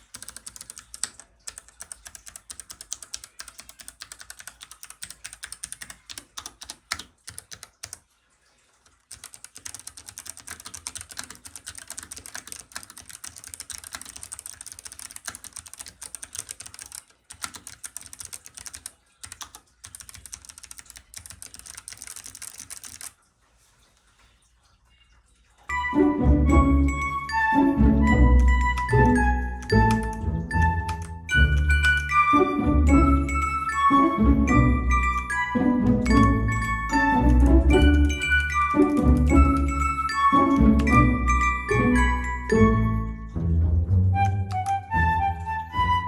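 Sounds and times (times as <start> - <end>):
mechanical keyboard typing: 0.0 - 8.1, 8.9 - 23.2, 28.0 - 42.7, 44.2 - 45.6.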